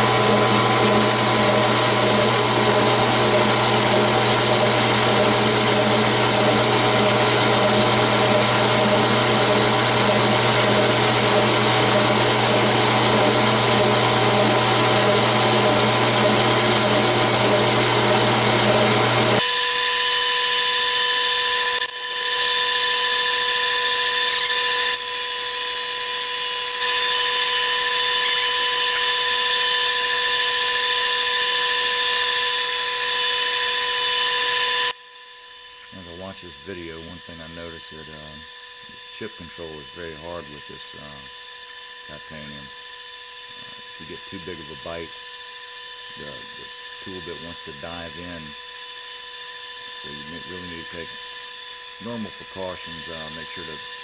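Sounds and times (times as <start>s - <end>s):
metal lathe cutting: 0.0s - 35.0s, 35.8s - 54.0s.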